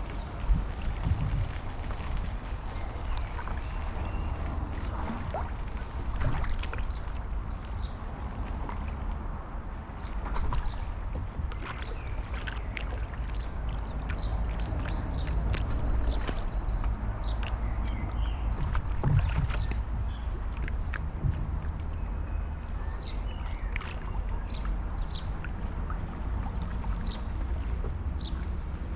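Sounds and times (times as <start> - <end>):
paddle splashing in water: 0.0 - 28.9
wind rumble on microphone: 0.0 - 28.9.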